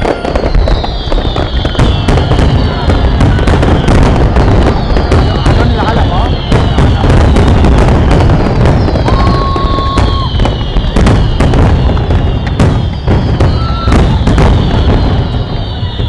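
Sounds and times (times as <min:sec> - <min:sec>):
falling whistles of shells: 0:00.0 - 0:16.0
fireworks bangs: 0:00.0 - 0:16.0.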